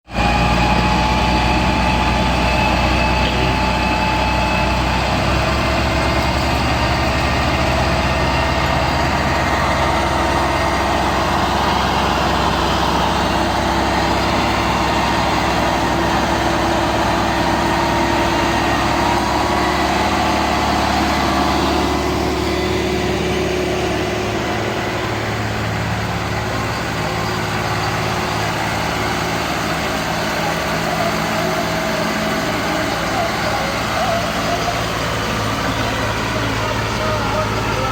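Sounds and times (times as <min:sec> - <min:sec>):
tractor diesel engines under load: 0:00.0 - 0:37.9.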